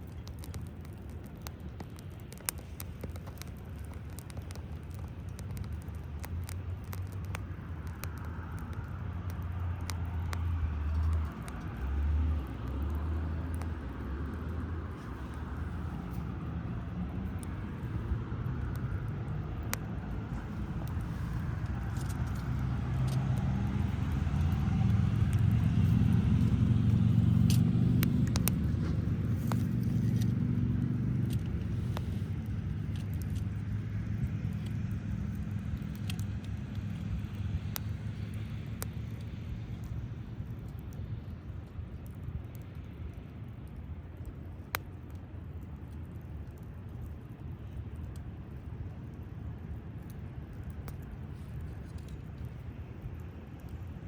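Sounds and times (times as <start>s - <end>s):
campfire crackling and popping: 0.0s - 54.0s
road traffic rumble: 0.0s - 54.0s.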